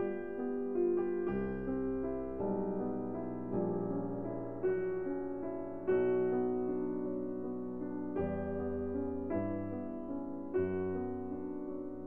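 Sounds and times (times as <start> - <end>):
slow gentle piano chords: 0.0 - 12.0.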